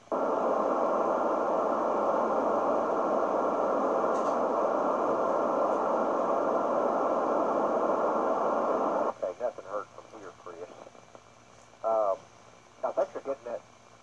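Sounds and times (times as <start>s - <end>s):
radio receiver static noise: 0.0s - 12.2s, 12.8s - 13.6s.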